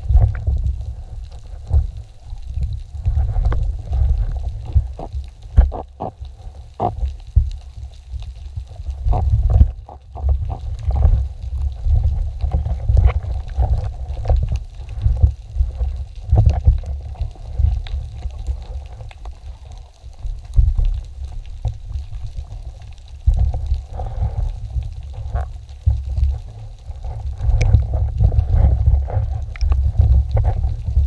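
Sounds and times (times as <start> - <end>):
crackling clicks: 0.0 - 31.0
underwater water rumbling: 0.0 - 31.0.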